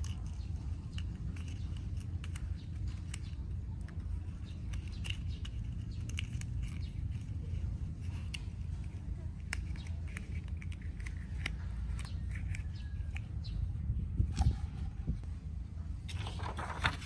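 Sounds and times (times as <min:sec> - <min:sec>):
paper crinkling: 0:00.0 - 0:13.0, 0:16.1 - 0:17.0.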